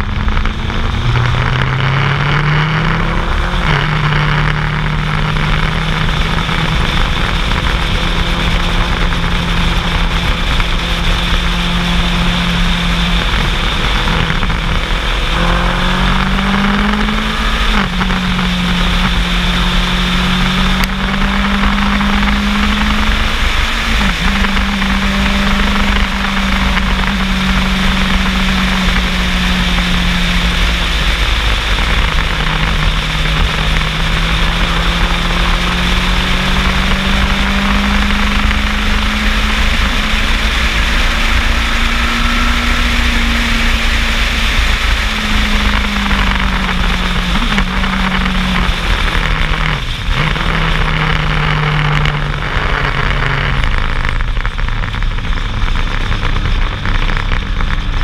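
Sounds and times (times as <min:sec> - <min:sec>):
motorcycle engine cruising: 0:00.0 - 0:58.0
wind rush: 0:00.0 - 0:58.0.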